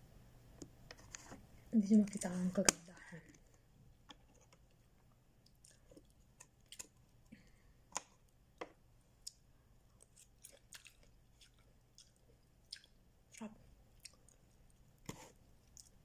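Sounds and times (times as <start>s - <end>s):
quiet chewing with clicks: 2.1s - 16.0s.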